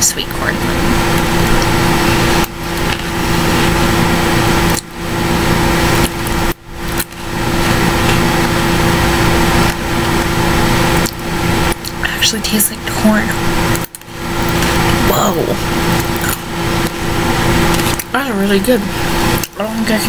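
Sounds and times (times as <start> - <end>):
microphone hiss and hum: 0.0 - 20.0.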